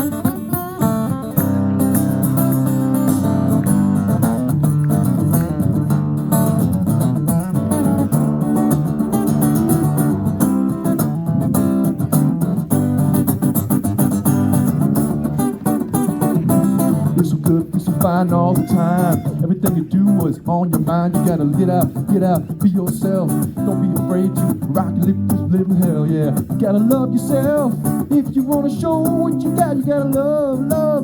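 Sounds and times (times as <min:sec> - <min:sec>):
rock-blues guitar: 0:00.0 - 0:31.0.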